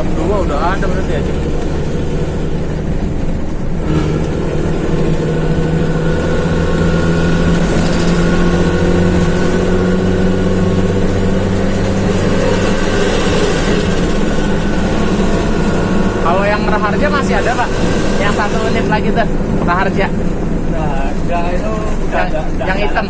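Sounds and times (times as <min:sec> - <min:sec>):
bus diesel engine pulling: 0:00.0 - 0:23.0.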